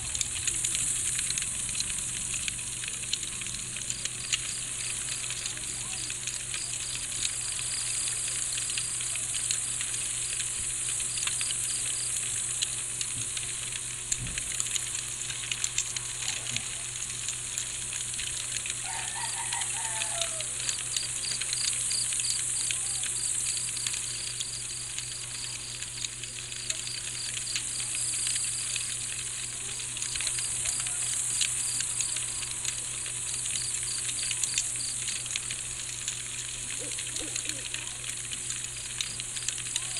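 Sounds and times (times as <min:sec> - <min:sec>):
crickets chirping: 0:00.0 - 0:13.7, 0:14.6 - 0:25.8, 0:26.4 - 0:39.9
light scattered clicking: 0:00.0 - 0:39.9.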